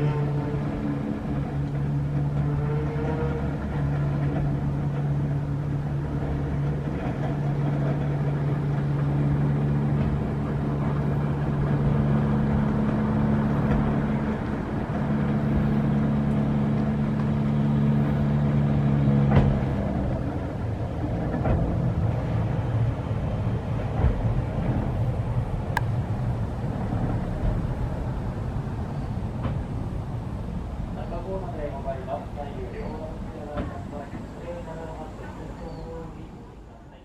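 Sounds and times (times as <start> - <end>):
cable car clunk: 0.0 - 36.4
cable car humming: 0.0 - 37.0.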